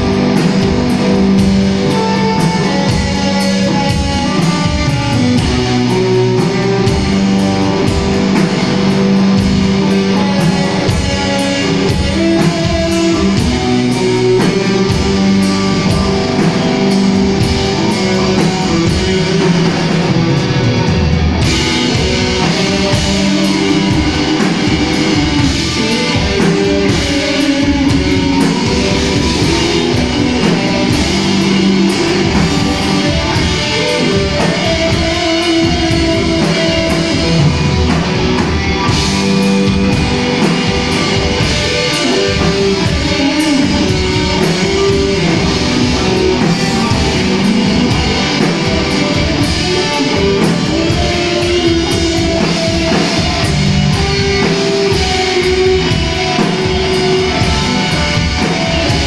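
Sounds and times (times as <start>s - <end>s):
drums: 0.0s - 59.0s
heavy electric guitars: 0.0s - 59.0s.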